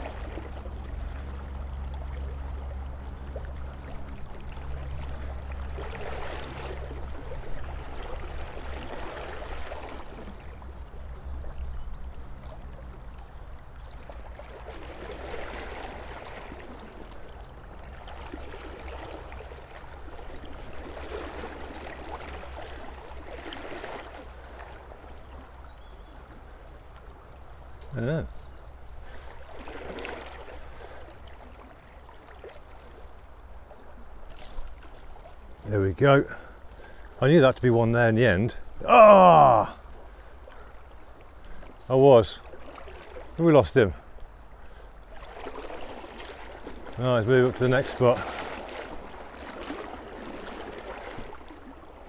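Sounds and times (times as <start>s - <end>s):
river water rushing and rippling: 0.0s - 52.0s.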